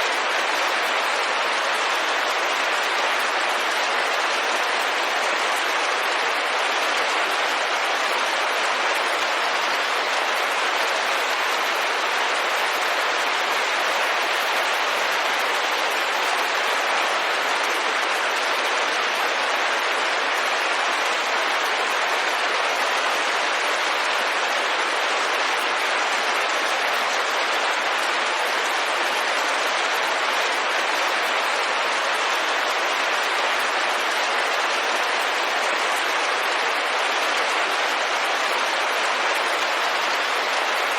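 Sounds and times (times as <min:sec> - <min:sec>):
rain pattering on a window: 0:00.0 - 0:40.9.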